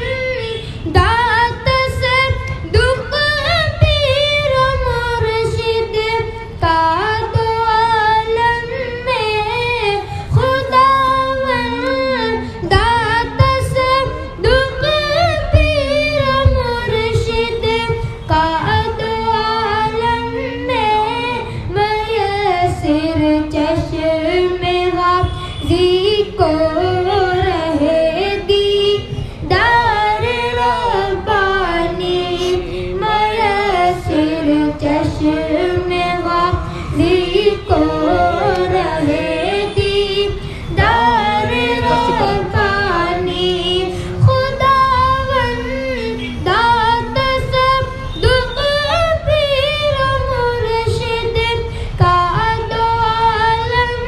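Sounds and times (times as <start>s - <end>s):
boy singing devotional song: 0.0s - 54.0s.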